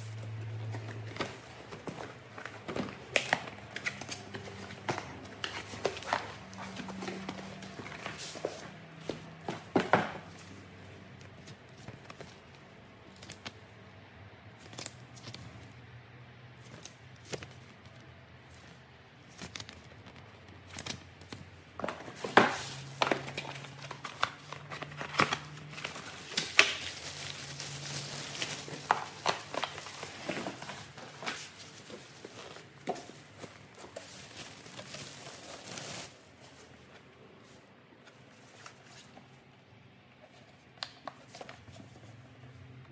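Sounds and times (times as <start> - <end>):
foam and cardboard rustling: 0.0 - 13.5, 16.6 - 39.3.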